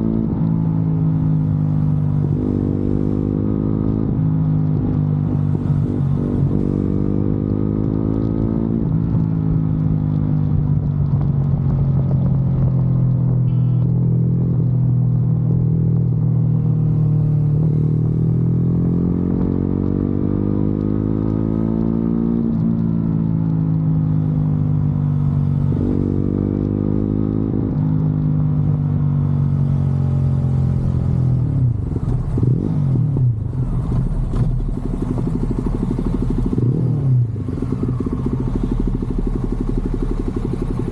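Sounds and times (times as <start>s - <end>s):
motorcycle engine shifting gears: 0.0s - 40.9s.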